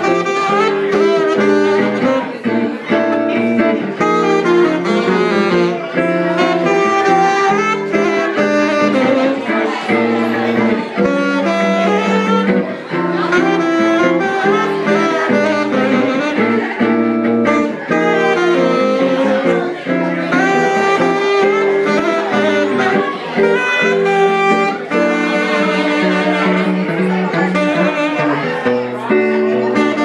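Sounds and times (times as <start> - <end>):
guitar accompaniment: 0.0 - 30.0
saxophone melody: 0.0 - 30.0.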